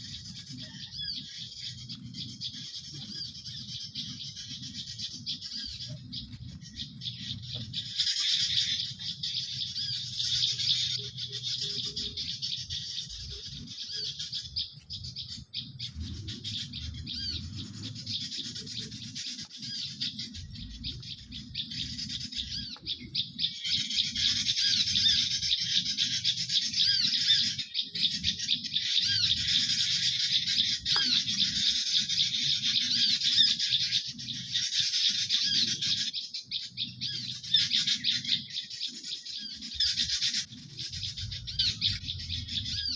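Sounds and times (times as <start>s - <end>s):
small birds twittering: 0.0s - 42.9s.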